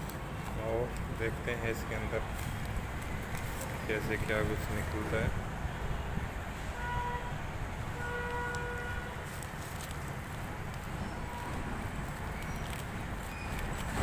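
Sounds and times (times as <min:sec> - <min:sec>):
vehicle traffic rumble: 0:00.0 - 0:14.0.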